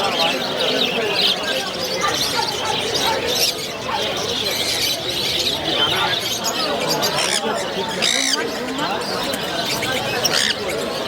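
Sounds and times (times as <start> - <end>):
caged birds chirping and squawking: 0.0 - 11.0.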